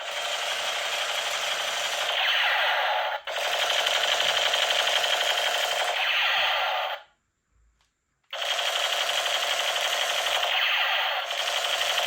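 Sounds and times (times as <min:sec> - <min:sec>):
toy gun rapid rattle: 0:00.0 - 0:07.0, 0:08.3 - 0:12.0.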